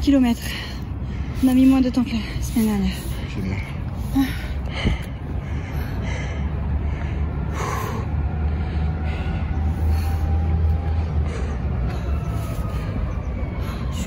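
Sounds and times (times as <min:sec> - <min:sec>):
woman breathing hard: 0:00.4 - 0:14.0.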